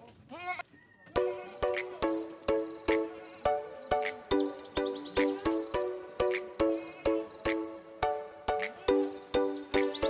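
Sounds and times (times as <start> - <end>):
light bouncy plucked tune: 1.2 - 10.0.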